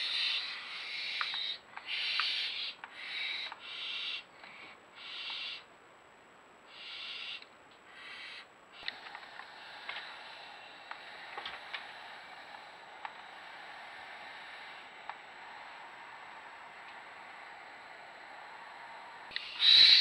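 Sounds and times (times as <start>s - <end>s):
owl hissing call: 0.0s - 5.7s, 6.7s - 20.0s
steady hiss: 0.0s - 20.0s.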